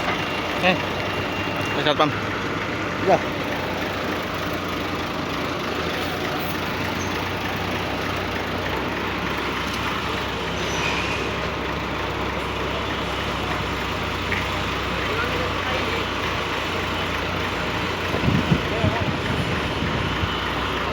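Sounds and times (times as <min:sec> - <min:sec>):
heavy vehicle engines humming: 0:00.0 - 0:20.9
roadside traffic noise: 0:00.0 - 0:20.9.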